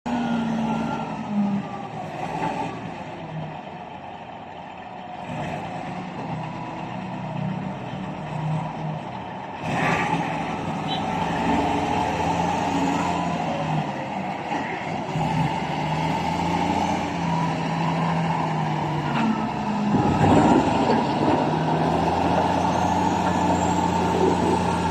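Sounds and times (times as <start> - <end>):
heavy truck engines running: 0.1 - 24.9.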